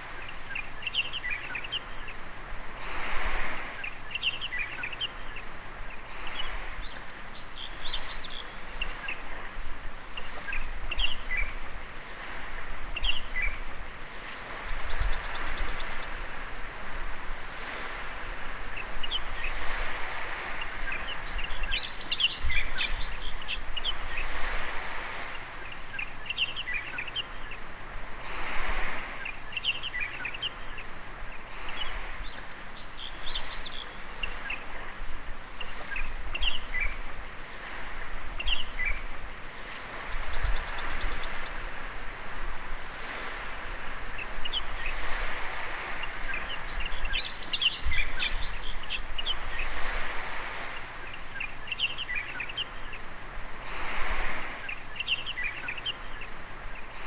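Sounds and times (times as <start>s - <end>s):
birds chirping: 0.0s - 2.4s, 3.4s - 16.7s, 17.6s - 27.8s, 28.8s - 57.0s
small waves washing ashore: 0.0s - 57.0s.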